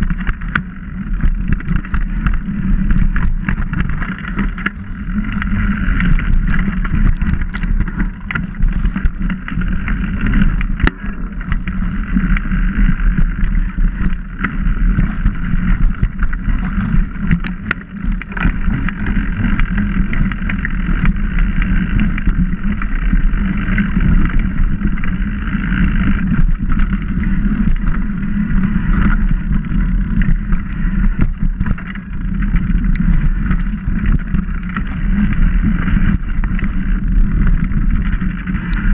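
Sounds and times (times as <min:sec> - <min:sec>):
bike clicks and rattles: 0:00.0 - 0:38.9
wind buffeting microphone: 0:00.0 - 0:38.9.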